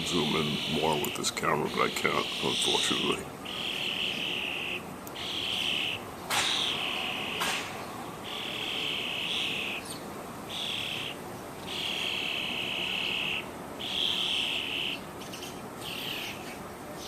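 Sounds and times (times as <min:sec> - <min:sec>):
bird calling with high trills: 0:00.0 - 0:17.0.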